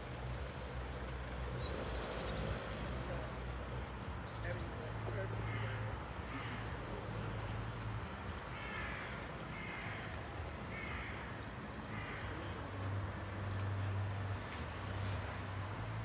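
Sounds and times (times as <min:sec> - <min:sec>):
distant train engine drone: 0:00.1 - 0:16.0.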